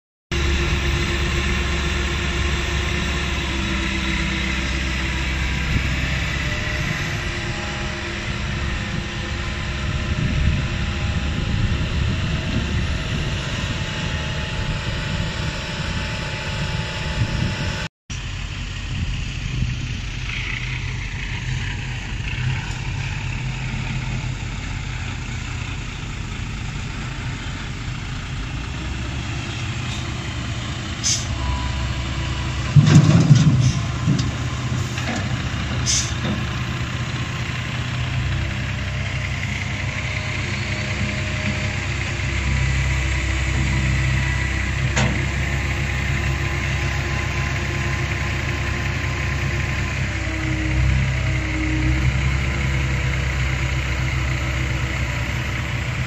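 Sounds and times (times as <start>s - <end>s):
excavator diesel engine running: 0.3s - 56.0s.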